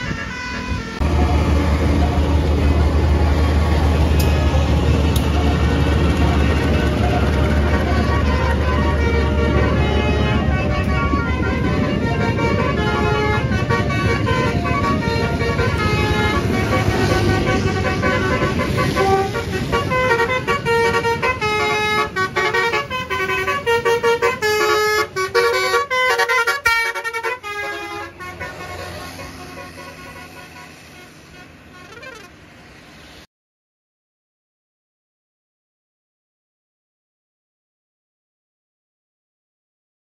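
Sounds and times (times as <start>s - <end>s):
multi-trumpet bus horn tune: 0.0s - 32.9s
bus engine: 0.0s - 33.3s.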